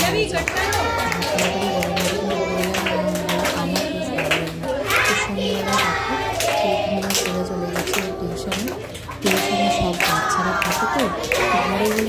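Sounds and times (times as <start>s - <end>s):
children clapping: 0.0s - 12.0s
children singing: 0.4s - 12.0s.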